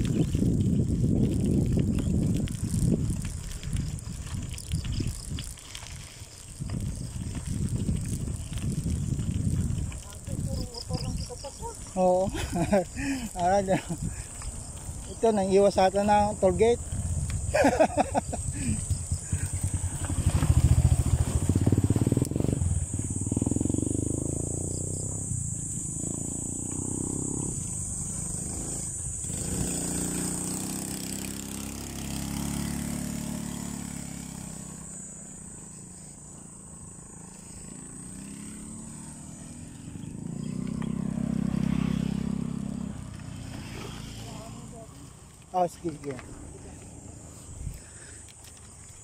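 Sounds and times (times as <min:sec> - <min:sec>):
vehicles passing: 0:00.0 - 0:49.0.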